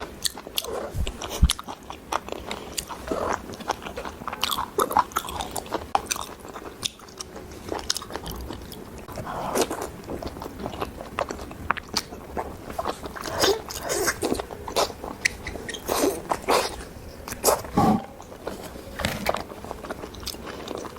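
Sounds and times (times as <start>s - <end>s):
wet chewing and biting: 0.2s - 18.5s.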